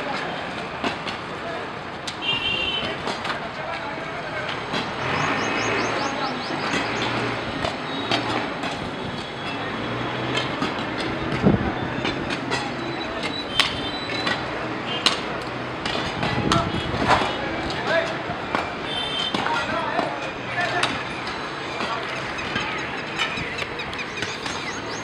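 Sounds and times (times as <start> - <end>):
crowd with raised voices: 0.0 - 25.0.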